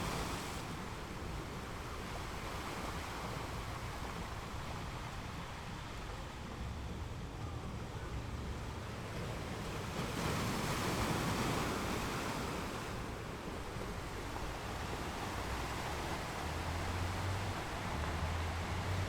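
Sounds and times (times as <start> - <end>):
ocean waves breaking on beach: 0.0 - 6.4, 8.9 - 19.0.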